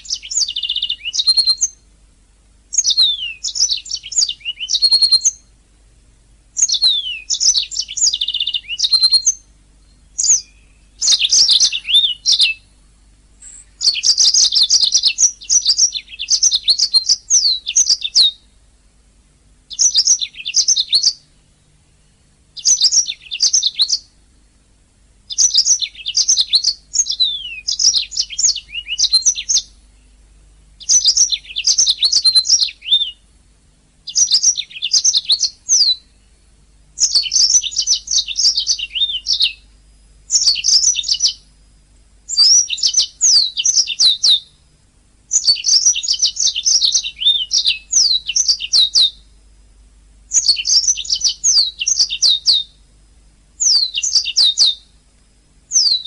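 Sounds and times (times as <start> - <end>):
canary singing: 0.0 - 2.0, 2.7 - 5.6, 6.5 - 18.6, 19.6 - 33.4, 34.0 - 41.6, 42.3 - 44.7, 45.3 - 49.4, 50.3 - 52.9, 53.6 - 55.0, 55.7 - 56.0.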